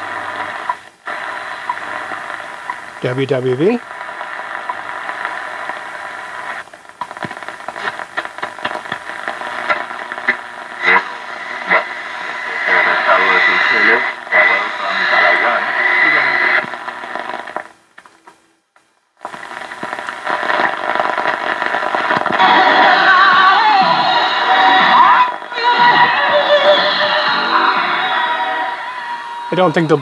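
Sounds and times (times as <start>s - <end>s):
radio static hiss and crackle: 0.0s - 30.0s.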